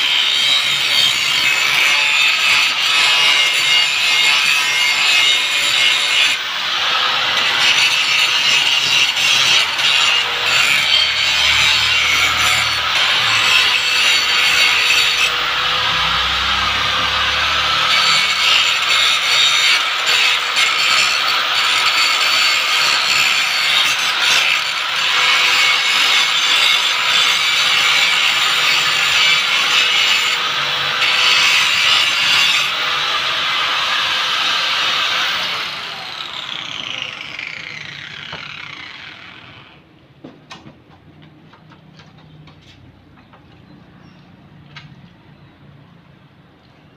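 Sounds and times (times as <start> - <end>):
angle grinder grinding metal: 0.0 - 39.8.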